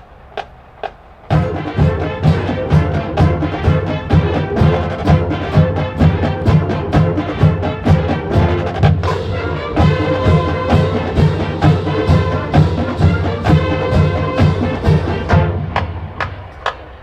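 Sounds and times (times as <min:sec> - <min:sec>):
steady drum beat: 0:00.3 - 0:17.0
brass chords: 0:01.3 - 0:16.6.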